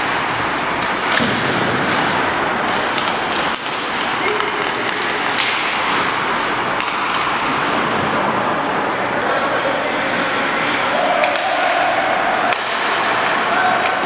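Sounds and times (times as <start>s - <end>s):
sticks and puck clacking: 0.0s - 14.0s.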